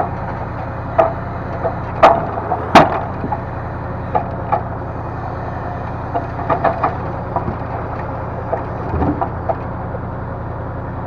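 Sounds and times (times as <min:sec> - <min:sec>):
logs knocking: 0:00.0 - 0:09.7
hydraulic loader working: 0:00.0 - 0:11.0
truck engine running: 0:00.0 - 0:11.0.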